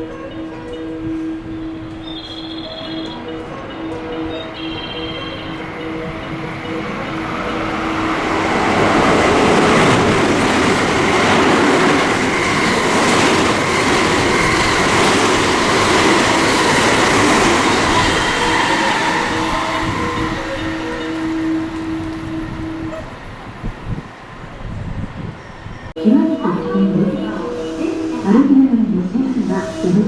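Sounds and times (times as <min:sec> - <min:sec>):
train wheels rushing on rails: 0:00.6 - 0:25.9.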